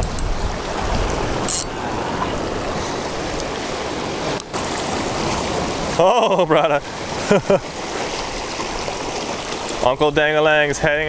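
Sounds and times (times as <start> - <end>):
sea water splashing over rocks: 0.0 - 11.0.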